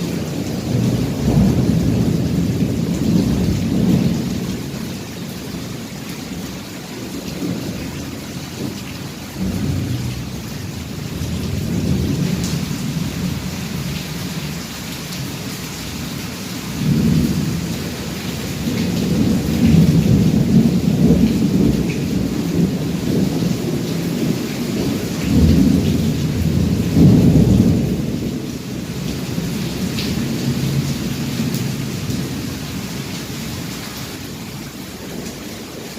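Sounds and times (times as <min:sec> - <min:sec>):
thunder rumbling: 0:00.0 - 0:16.1, 0:16.7 - 0:32.8
heavy rain falling: 0:00.0 - 0:35.9.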